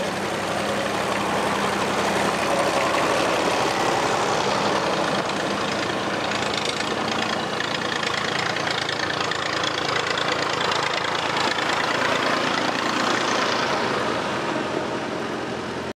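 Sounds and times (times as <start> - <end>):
tractor engine passing: 0.0 - 15.9
other tractor engines: 0.0 - 16.0.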